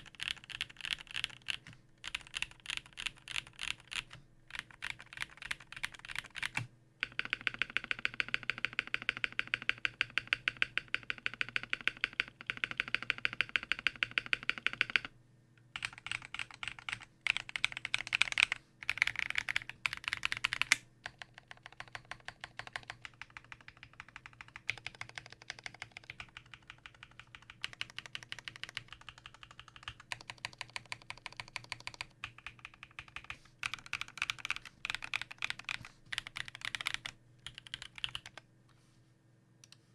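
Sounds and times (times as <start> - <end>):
mechanical keyboard typing: 0.0 - 15.1, 15.8 - 38.4.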